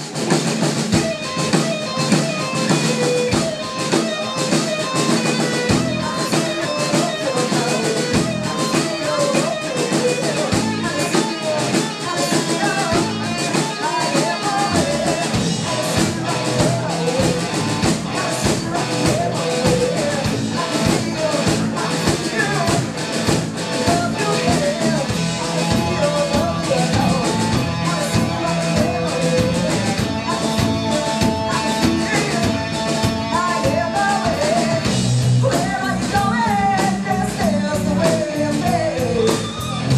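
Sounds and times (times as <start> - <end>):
bass guitar: 0.0 - 39.9
drum kit: 0.0 - 39.9
electric guitar: 0.0 - 39.9
woman singing: 1.0 - 23.1, 23.7 - 39.9.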